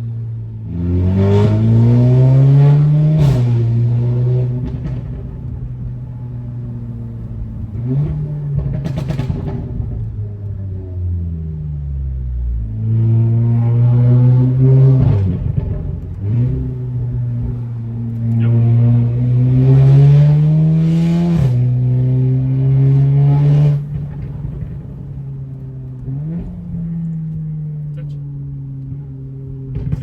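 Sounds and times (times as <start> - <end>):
turbocharged car engine revving: 0.6 - 10.5, 12.7 - 30.0.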